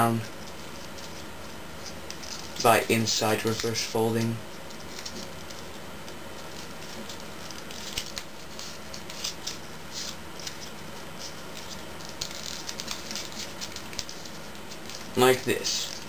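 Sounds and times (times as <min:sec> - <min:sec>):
steady background hiss: 0:00.0 - 0:16.0
paper rustling and crinkling: 0:00.2 - 0:16.0.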